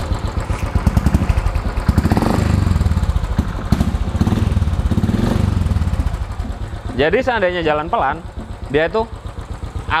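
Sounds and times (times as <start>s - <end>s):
motorcycle engine thumping: 0.0s - 10.0s.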